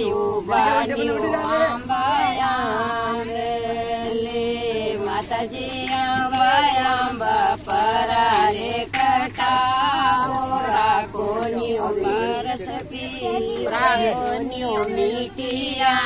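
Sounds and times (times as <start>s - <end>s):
women singing unaccompanied: 0.0s - 16.0s.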